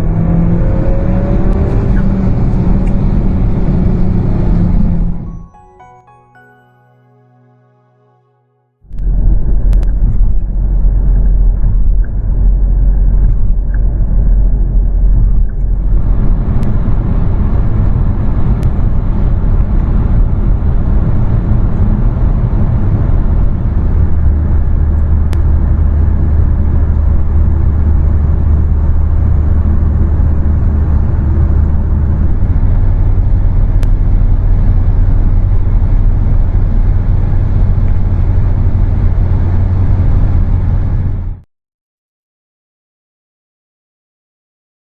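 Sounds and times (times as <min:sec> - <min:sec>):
car engine low drone: 0:00.0 - 0:05.4, 0:08.9 - 0:41.4.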